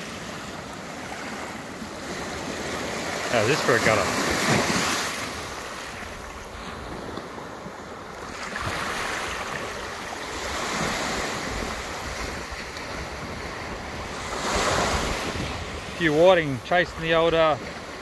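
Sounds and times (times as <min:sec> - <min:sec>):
small waves washing on sand: 0:00.0 - 0:18.0.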